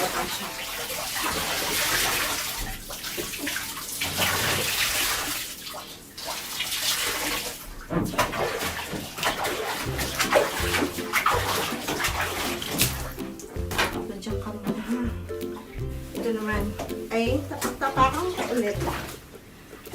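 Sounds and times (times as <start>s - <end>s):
water sloshing in a bathtub: 0.0s - 19.9s.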